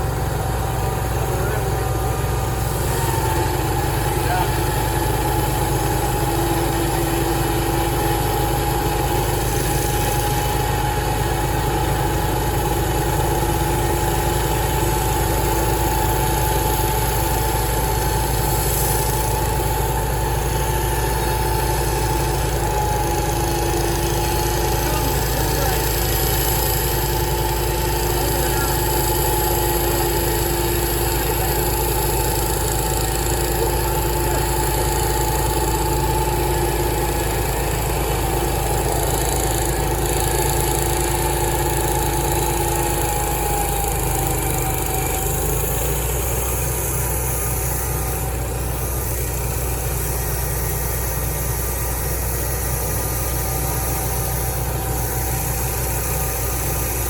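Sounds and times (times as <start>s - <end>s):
engine hum: 0.0s - 57.0s
machinery whine: 0.0s - 57.0s
sawmill machinery running: 0.0s - 57.0s.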